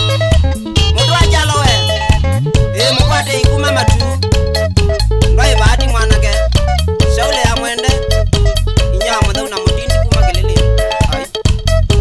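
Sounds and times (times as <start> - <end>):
band music with plucked guitar: 0.0 - 12.0.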